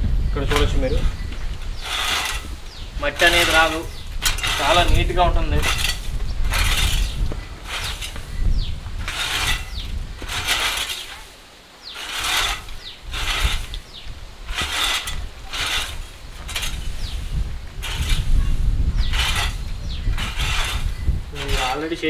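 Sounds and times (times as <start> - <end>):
metal rake scraping dirt floor: 0.4 - 22.0.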